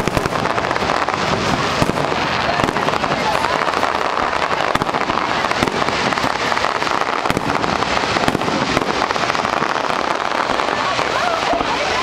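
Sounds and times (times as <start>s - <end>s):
firework shells bursting: 0.0s - 11.8s
fireworks crackling: 0.0s - 12.0s.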